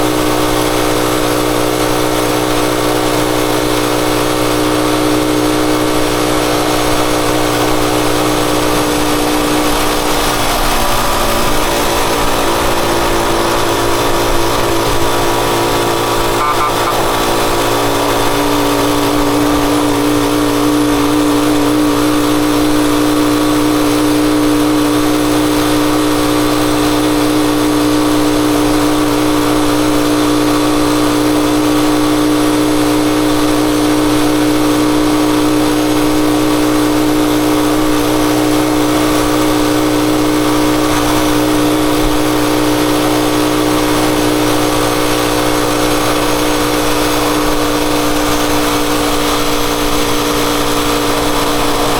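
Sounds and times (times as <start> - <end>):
motorcycle engine running steadily: 0.0 - 51.9.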